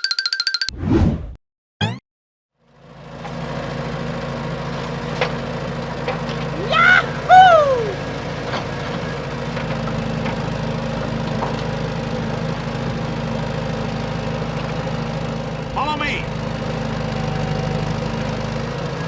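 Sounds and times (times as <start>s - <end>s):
small engine idling: 2.6s - 19.0s.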